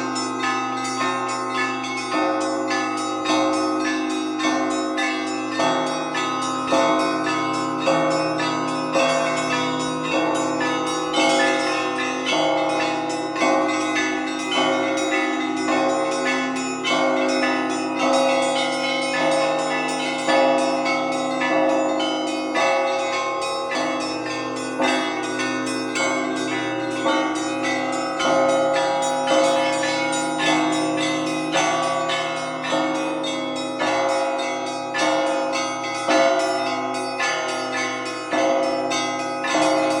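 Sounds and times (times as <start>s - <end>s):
church bells pealing: 0.0s - 40.0s.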